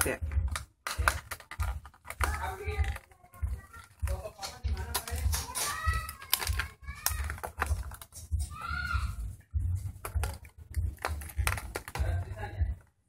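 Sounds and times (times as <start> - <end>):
plastic packaging crackling: 0.0 - 8.9, 9.9 - 12.8.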